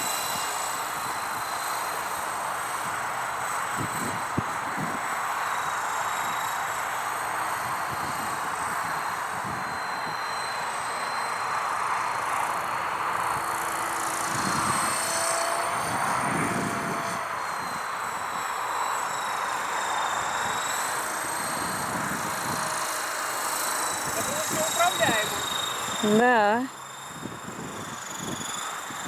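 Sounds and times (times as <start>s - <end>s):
toy helicopter rotors whining: 0.0s - 29.0s.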